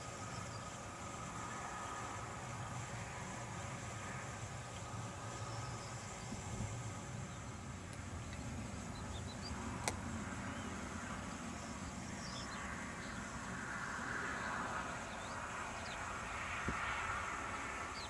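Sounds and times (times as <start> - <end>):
distant jet engines rumbling: 0.0 - 18.0.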